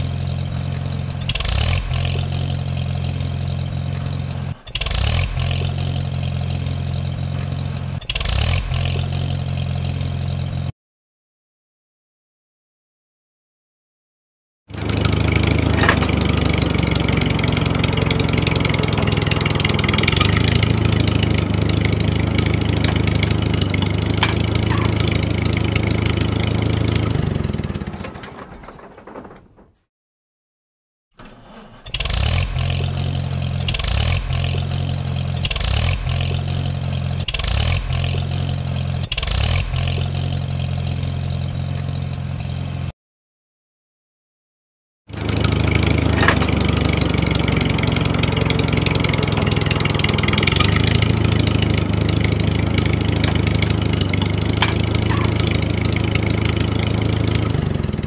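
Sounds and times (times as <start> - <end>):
tractor engine revving: 0.0 - 10.7, 14.7 - 29.8, 31.2 - 42.9, 45.1 - 58.0
tractor engine running: 0.0 - 10.7, 14.7 - 29.8, 31.2 - 42.9, 45.1 - 58.0.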